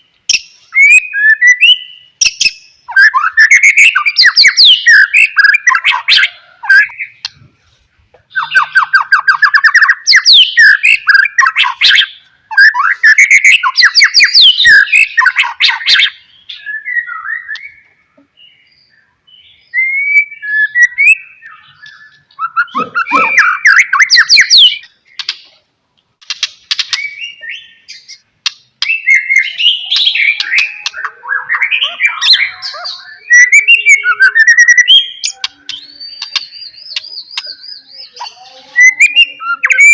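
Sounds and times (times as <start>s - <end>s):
bird singing trills and whistles: 0.0s - 7.4s, 8.2s - 25.6s, 26.3s - 39.9s.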